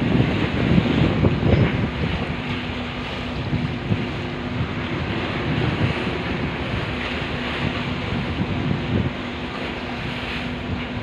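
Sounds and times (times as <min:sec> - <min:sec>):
waves breaking against concrete: 0:00.0 - 0:11.0
wind buffeting microphone: 0:00.0 - 0:11.0.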